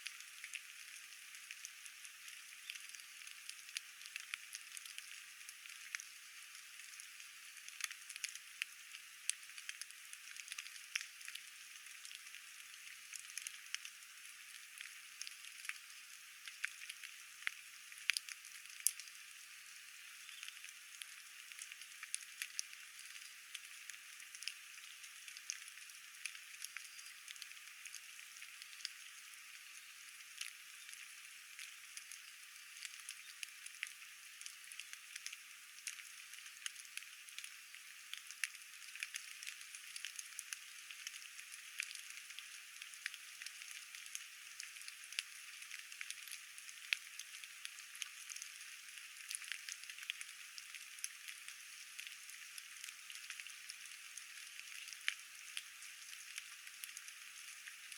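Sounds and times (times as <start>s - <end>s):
raindrop ticks and drips: 0.0s - 57.9s.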